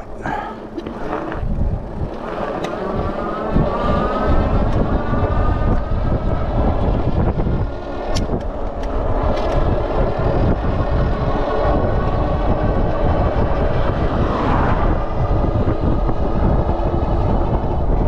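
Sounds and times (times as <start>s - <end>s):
tyres rolling on asphalt: 0.0s - 17.8s
electric motor whine: 0.0s - 18.0s
wind buffeting microphone: 0.0s - 18.0s.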